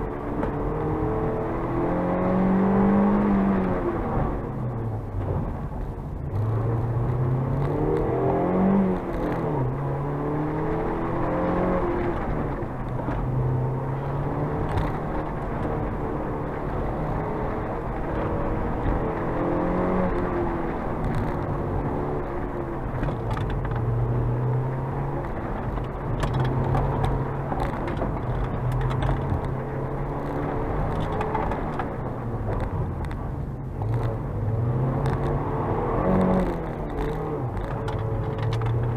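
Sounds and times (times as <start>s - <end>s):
car engine revving: 0.0s - 5.1s, 6.2s - 38.9s.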